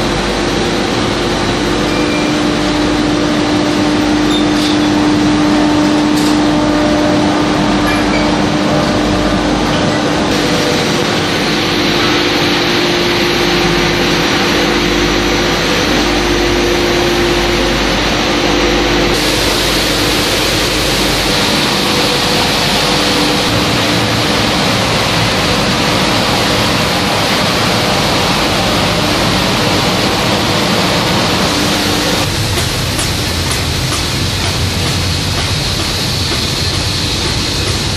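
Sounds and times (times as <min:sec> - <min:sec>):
shot blasting machine noise: 0:00.0 - 0:37.9
steady machine hum: 0:00.0 - 0:37.9.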